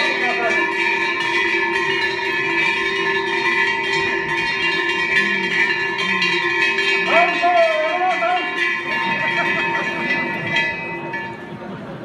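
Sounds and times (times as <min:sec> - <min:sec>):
metal bells clanging: 0:00.0 - 0:12.0.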